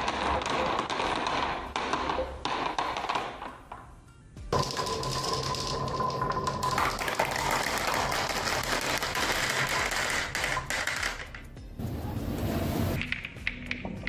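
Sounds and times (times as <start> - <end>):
marbles clattering on wooden track: 0.0 - 3.9, 4.5 - 11.5, 13.0 - 14.0.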